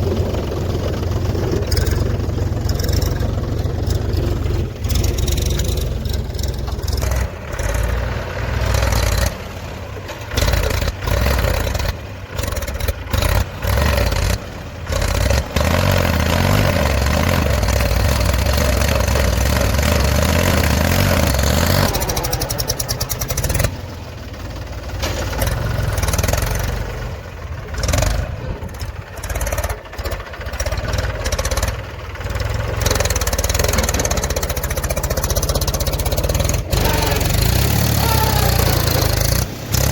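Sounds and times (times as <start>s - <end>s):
diesel engine revving unevenly: 0.0s - 39.9s.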